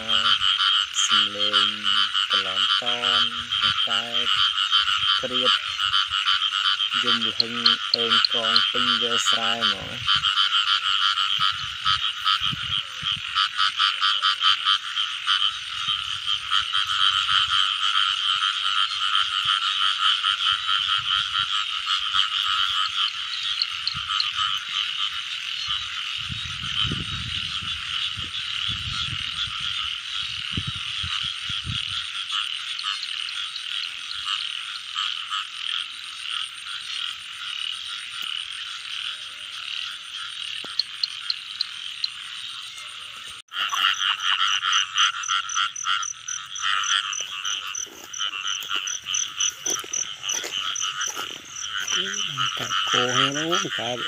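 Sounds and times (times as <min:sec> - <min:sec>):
frogs croaking in chorus: 0:00.0 - 0:54.0.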